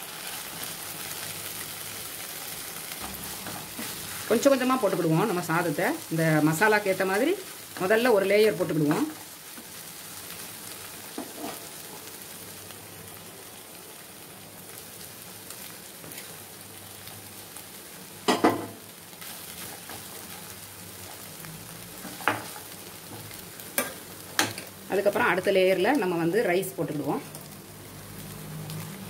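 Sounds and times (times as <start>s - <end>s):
food sizzling in a frying pan: 0.0s - 29.0s.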